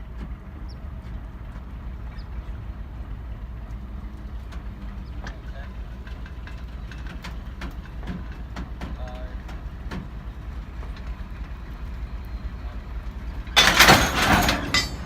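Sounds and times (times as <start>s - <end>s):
diesel locomotive engine idling: 0.0s - 15.0s.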